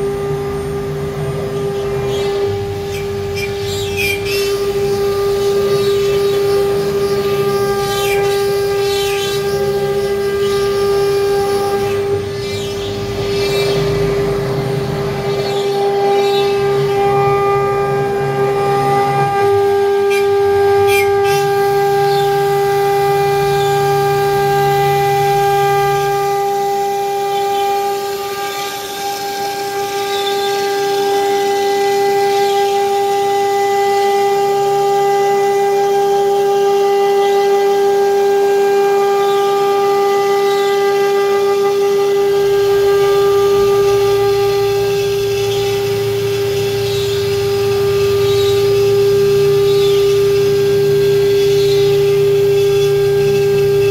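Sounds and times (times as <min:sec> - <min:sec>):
cutting and gantry drive noise: 0:00.0 - 0:53.9
router spindle high-pitched whine: 0:00.0 - 0:53.9.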